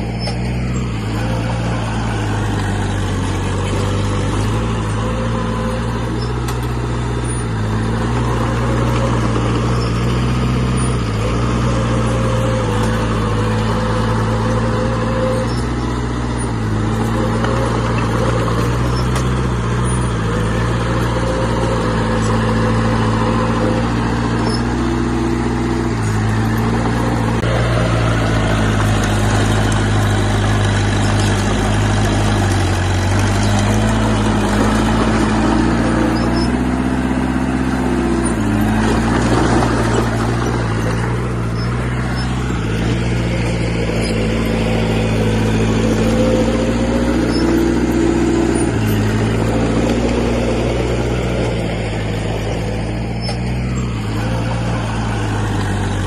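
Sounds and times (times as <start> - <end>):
diesel engine of earthmoving machine: 0.0 - 56.0.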